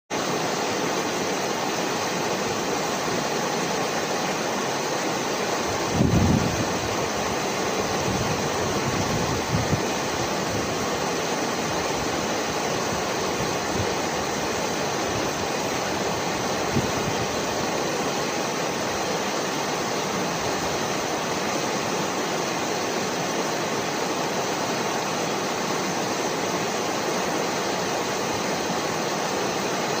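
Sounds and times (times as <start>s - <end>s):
steady rushing noise: 0.2s - 30.0s.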